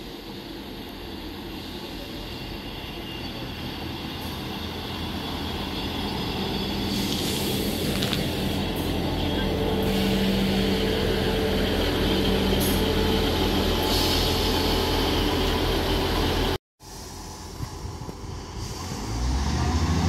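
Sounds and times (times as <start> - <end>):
train diesel engine drone: 0.0 - 20.0.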